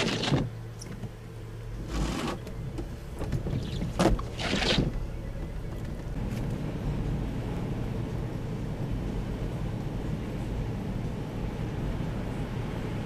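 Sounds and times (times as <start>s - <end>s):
vehicle driving on snow: 0.0s - 13.0s.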